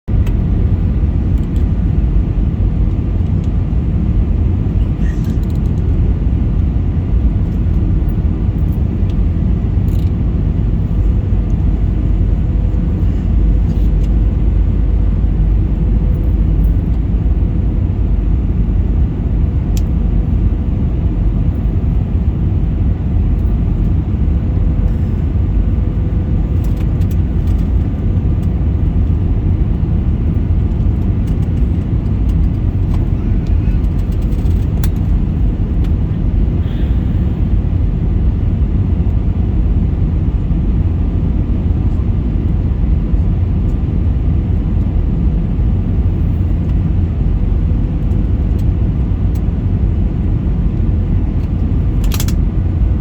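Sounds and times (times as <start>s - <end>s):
airliner low rumble: 0.0s - 53.0s
faint hum: 0.1s - 53.0s.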